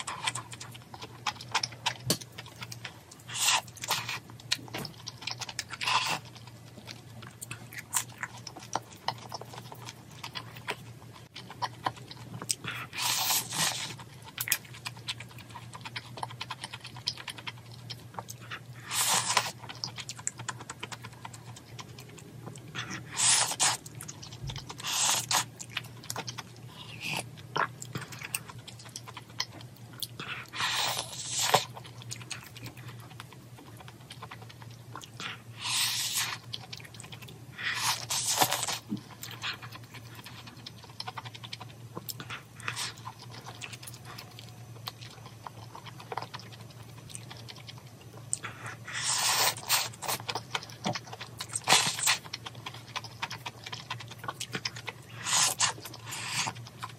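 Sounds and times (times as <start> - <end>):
person chewing: 0.0 - 56.9
steady low hum: 0.0 - 56.9.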